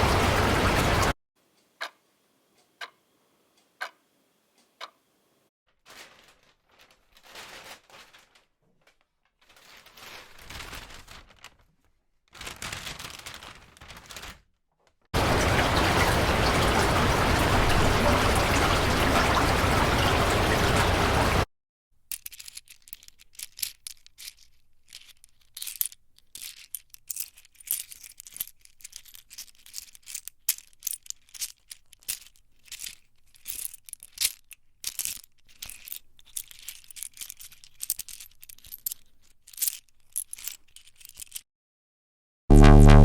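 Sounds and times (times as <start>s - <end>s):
high-pitched crackling and rustling: 5.7s - 21.5s, 22.1s - 41.5s.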